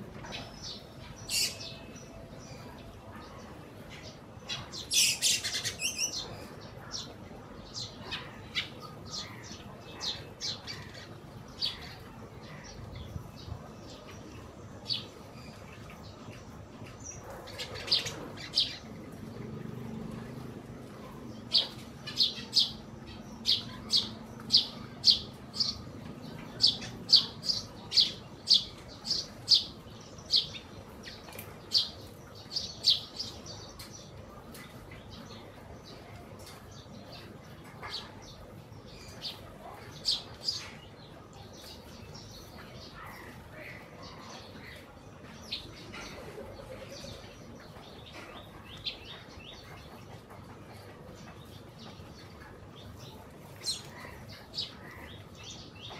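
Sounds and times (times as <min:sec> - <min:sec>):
sparrows chirping: 0:00.0 - 0:55.9.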